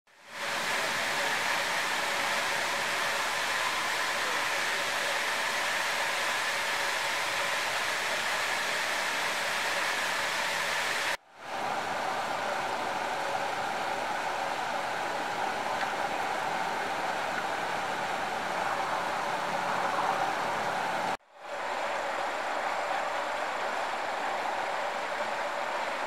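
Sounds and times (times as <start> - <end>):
stream water rushing: 0.2 - 26.0.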